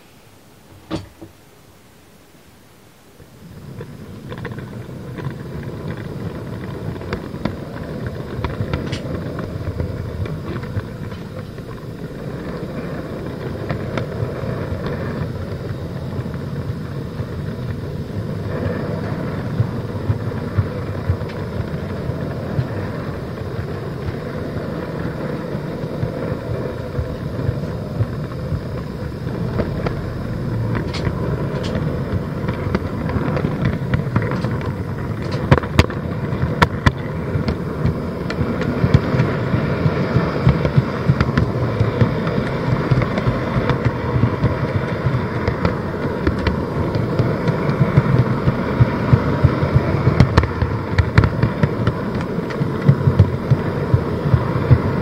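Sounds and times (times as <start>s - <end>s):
wheels clicking over rail joints: 0.6s - 1.4s, 3.6s - 55.0s.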